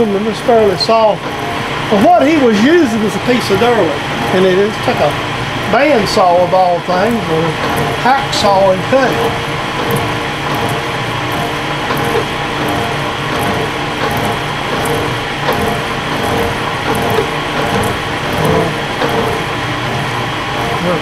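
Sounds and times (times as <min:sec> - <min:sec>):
milling machine cutting metal: 0:00.0 - 0:21.0.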